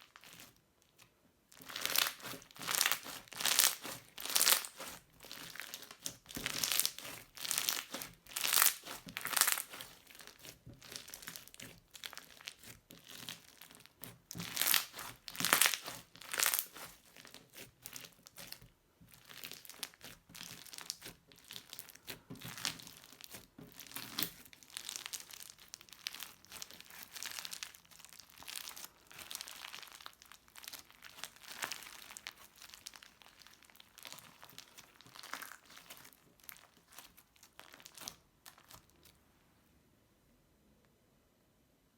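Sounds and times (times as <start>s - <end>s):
crunchy slime crackling: 0.0s - 39.2s.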